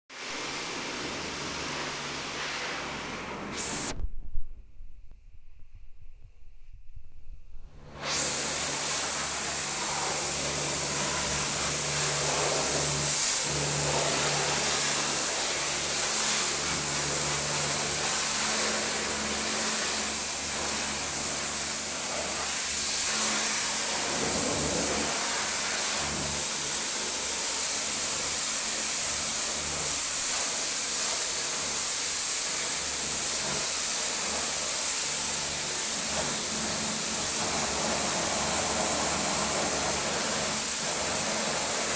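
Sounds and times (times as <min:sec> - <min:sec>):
pressure washer jet hissing: 0:00.2 - 0:04.0, 0:08.0 - 0:41.9
washer motor and pump humming: 0:08.1 - 0:41.9.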